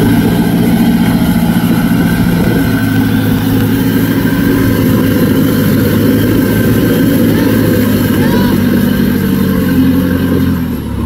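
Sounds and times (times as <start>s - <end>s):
engine running steady: 0.0s - 11.0s.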